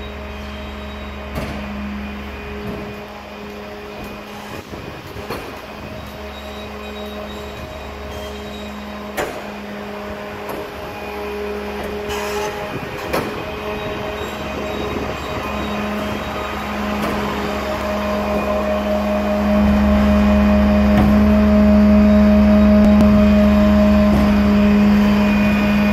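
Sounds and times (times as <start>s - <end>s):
truck engine droning hum: 0.0s - 25.9s.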